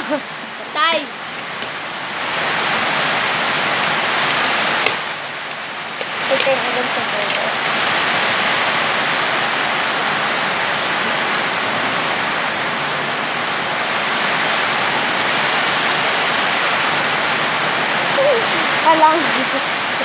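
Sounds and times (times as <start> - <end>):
heavy rain on a metal roof: 0.0 - 20.0.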